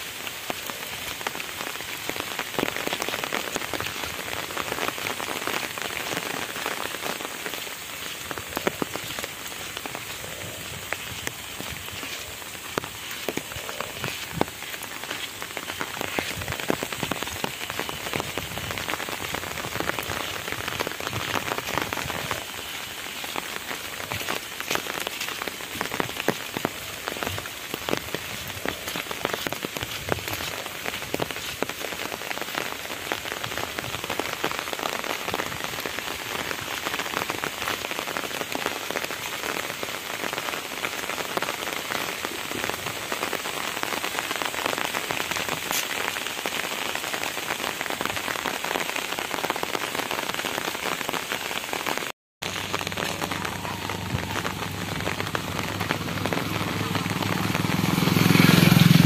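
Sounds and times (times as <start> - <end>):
rain tapping on umbrella: 0.0 - 59.0.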